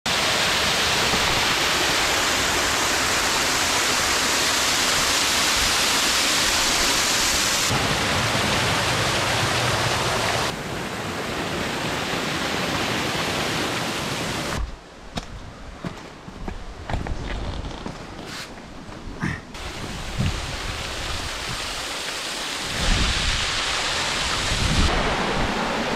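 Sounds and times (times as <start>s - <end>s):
waterfall rushing: 0.1s - 14.6s, 19.6s - 25.9s.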